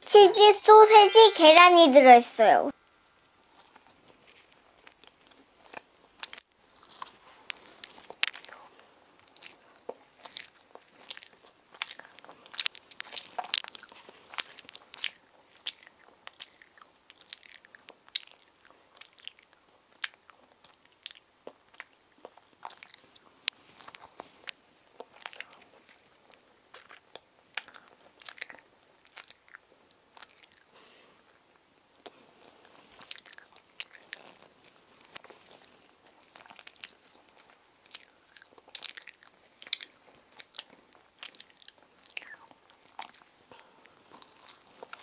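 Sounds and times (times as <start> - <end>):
child chewing with mouth clicks: 3.2 - 45.0.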